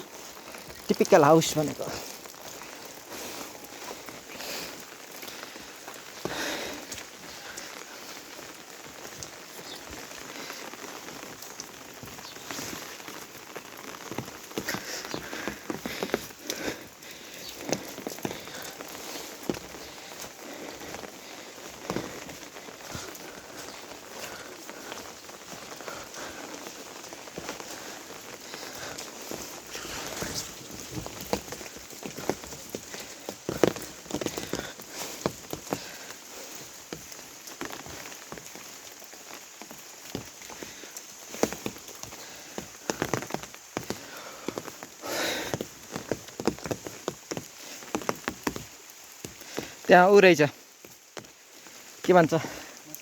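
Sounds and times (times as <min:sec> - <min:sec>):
rain falling: 0:00.0 - 0:53.0
raindrop ticks: 0:00.0 - 0:53.0.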